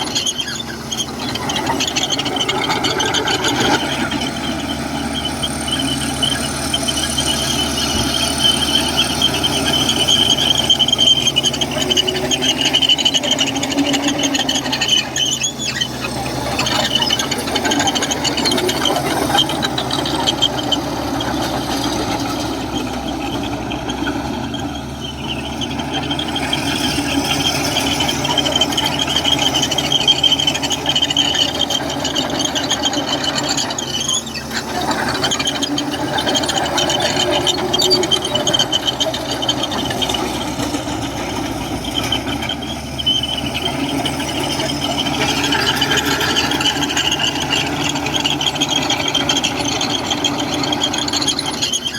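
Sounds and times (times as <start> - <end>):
bulldozer diesel engine: 0.0 - 51.9
steel tracks squealing: 0.0 - 51.9.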